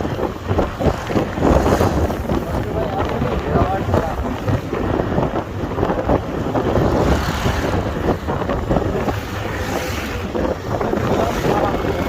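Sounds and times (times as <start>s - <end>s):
motorcycle running: 0.0s - 12.0s
road noise: 0.0s - 12.0s
wind buffeting microphone: 0.0s - 12.0s.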